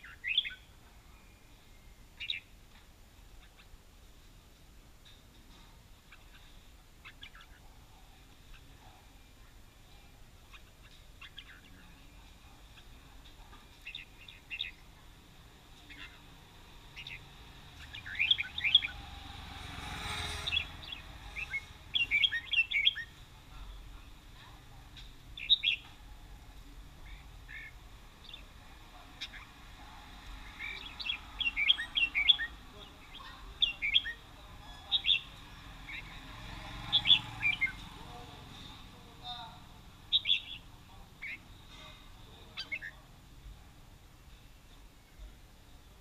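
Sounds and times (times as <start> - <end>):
birds chirping: 0.0 - 3.9, 5.0 - 46.0.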